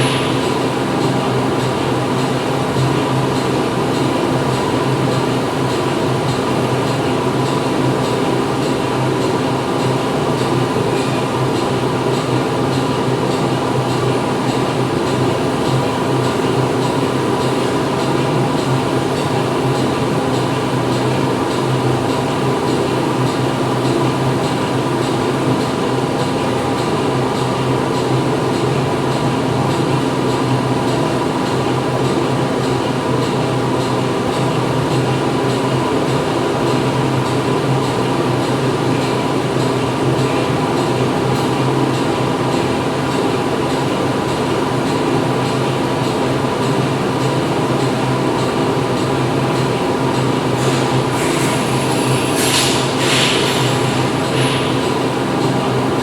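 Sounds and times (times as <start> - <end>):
factory machinery running: 0.0 - 56.0.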